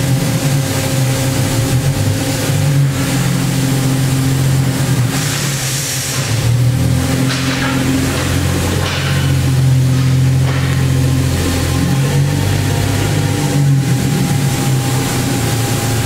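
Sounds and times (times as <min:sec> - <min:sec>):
machine hum shifting in pitch: 0:00.0 - 0:16.0.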